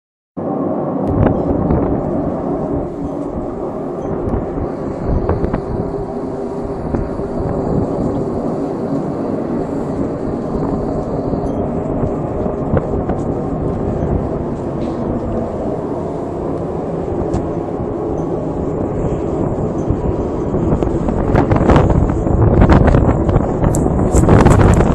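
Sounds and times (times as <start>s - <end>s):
low drone of held tones: 0.4s - 24.9s
low rumble: 0.4s - 24.9s.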